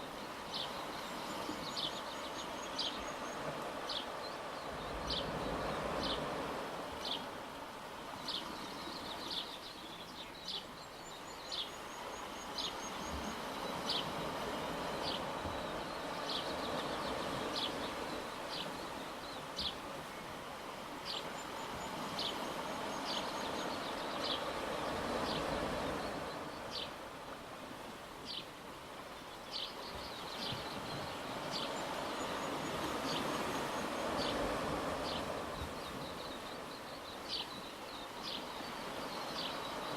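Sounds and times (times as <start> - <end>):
waves washing: 0.0 - 39.9.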